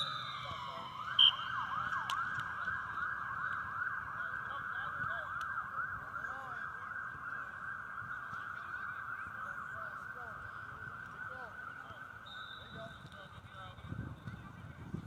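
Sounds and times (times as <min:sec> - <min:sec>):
emergency vehicle siren: 0:00.0 - 0:13.2
high siren chirp: 0:00.0 - 0:13.2.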